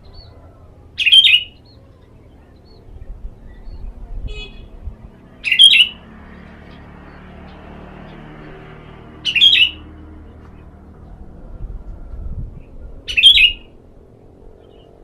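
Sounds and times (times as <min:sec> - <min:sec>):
bird chirping calls: 0:00.0 - 0:11.2, 0:12.6 - 0:13.8.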